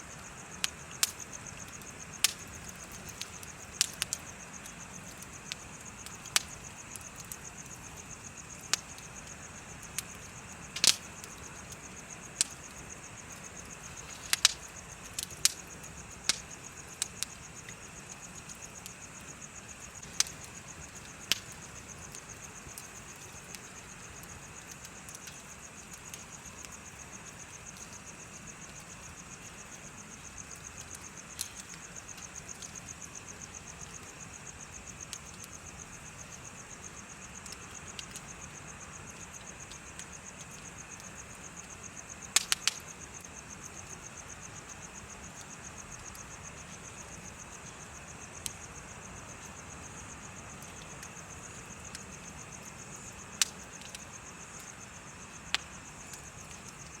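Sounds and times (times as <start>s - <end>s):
insects chirping: 0.0s - 57.0s
bonfire popping: 0.1s - 57.0s.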